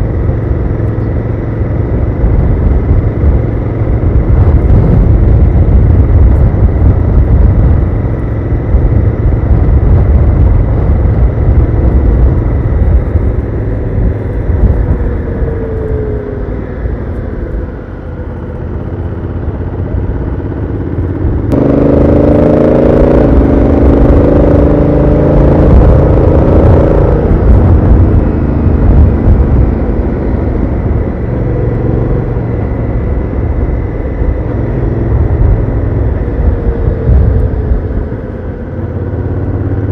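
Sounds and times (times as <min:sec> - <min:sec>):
motorcycle engine accelerating: 0:00.0 - 0:39.9
wind rumble on microphone: 0:00.0 - 0:39.9.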